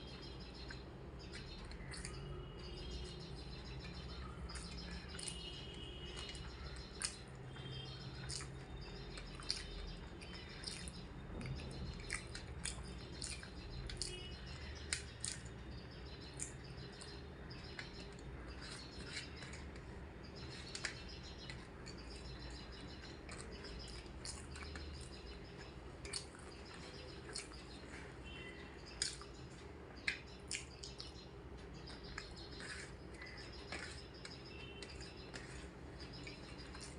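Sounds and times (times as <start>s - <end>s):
wet chewing clicks and smacks: 0.1s - 36.9s.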